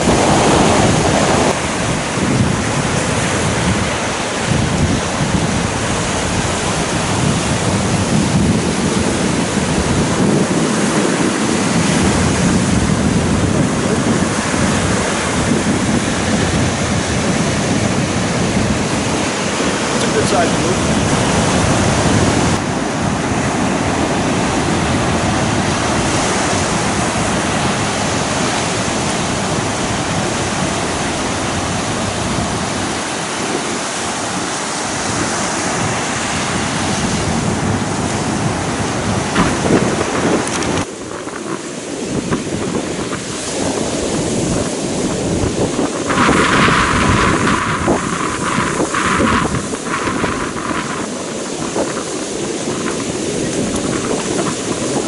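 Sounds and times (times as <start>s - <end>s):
ocean surf washing onto beach: 0.0s - 55.0s
wind buffeting microphone: 0.0s - 55.0s.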